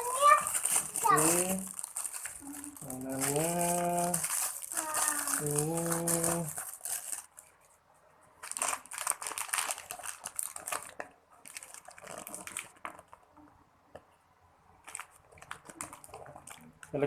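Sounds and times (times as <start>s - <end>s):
plastic wrapping crinkling: 0.0s - 7.7s, 8.4s - 13.3s, 14.8s - 17.0s.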